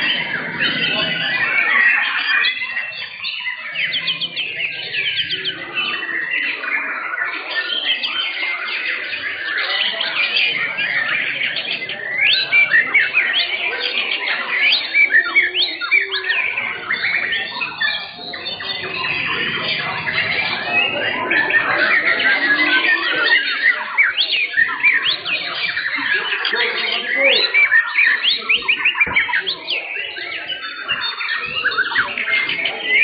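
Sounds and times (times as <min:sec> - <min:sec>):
birds singing whistles and chirps: 0:00.0 - 0:33.0.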